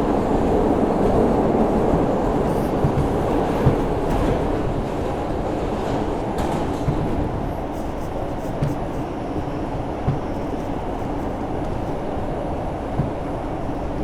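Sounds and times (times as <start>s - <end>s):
subway train low rumble: 0.0s - 14.0s.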